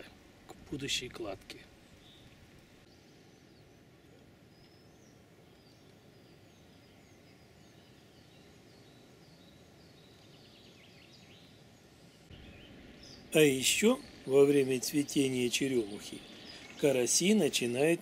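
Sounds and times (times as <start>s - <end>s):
faint outdoor hiss: 0.0s - 18.0s
faint songbirds chirping: 0.0s - 18.0s.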